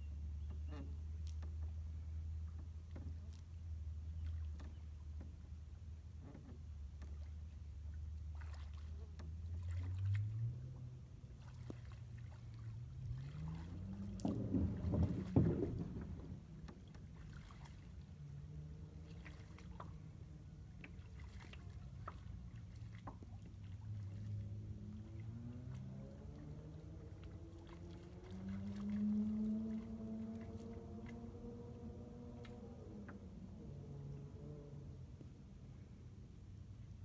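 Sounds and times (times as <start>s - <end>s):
boat motor running: 0.0s - 37.0s.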